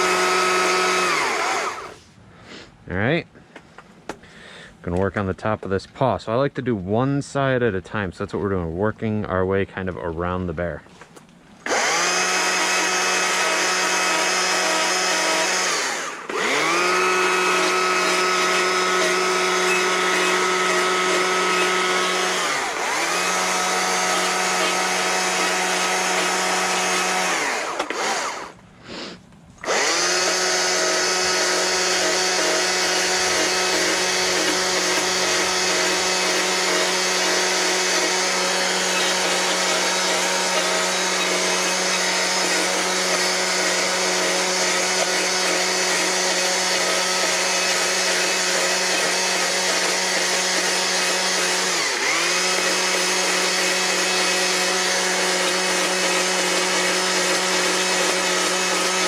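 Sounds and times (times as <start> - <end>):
chainsaw cutting wood: 0.0 - 2.1, 11.6 - 59.0.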